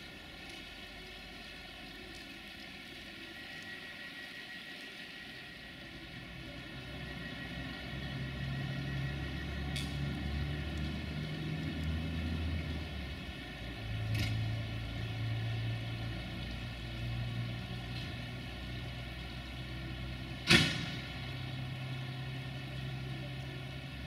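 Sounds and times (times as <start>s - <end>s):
locomotive low hum: 0.0s - 24.0s.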